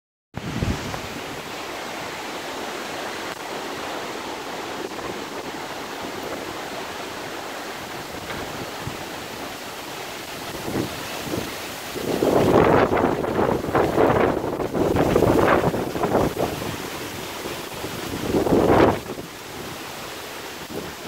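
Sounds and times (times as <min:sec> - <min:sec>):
steady rain falling: 0:00.4 - 0:21.0.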